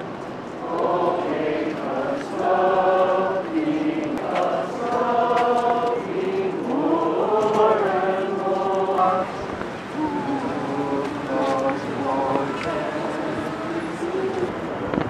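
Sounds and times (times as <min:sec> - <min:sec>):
crowd singing a slow hymn: 0:00.0 - 0:15.0.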